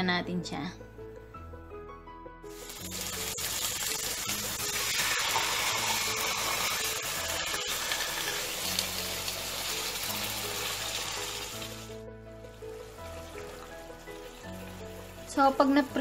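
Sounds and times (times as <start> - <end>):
meat sizzling in hot oil: 2.4 - 16.0.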